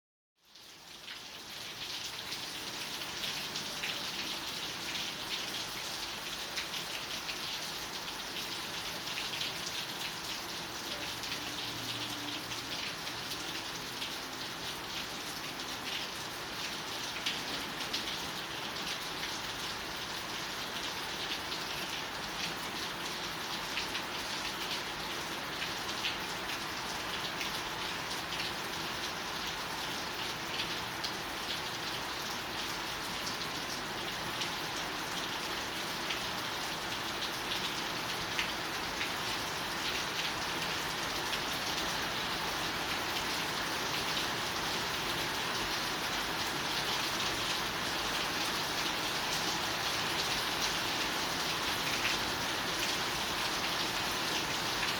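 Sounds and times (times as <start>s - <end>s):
steady rain falling: 0.4s - 54.9s.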